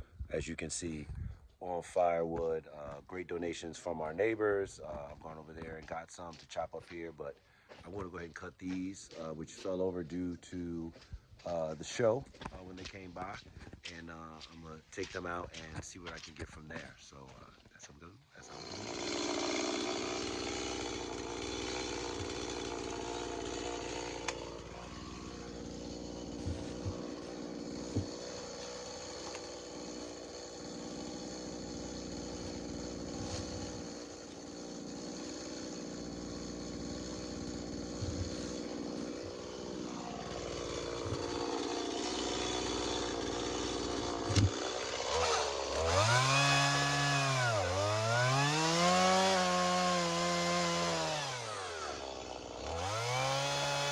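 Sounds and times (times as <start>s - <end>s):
chainsaw idling and revving: 1.6s - 16.4s, 18.4s - 53.9s.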